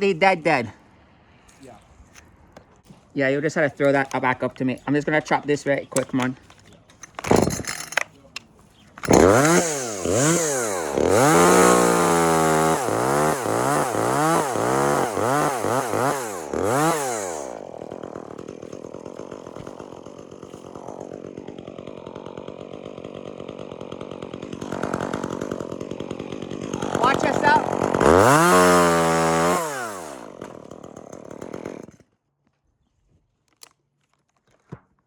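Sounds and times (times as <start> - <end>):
chainsaw revving and cutting wood: 2.9 - 8.1, 9.0 - 32.2
chainsaw idling: 3.6 - 32.0.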